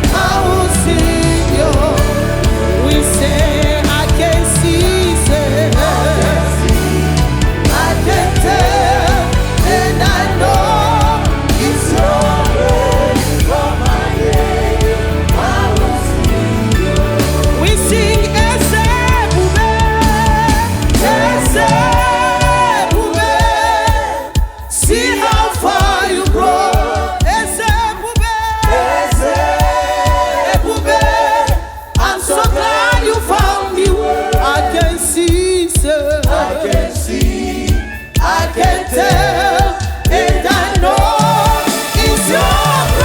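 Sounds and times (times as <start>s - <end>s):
gospel choir singing over beat: 0.0s - 43.0s.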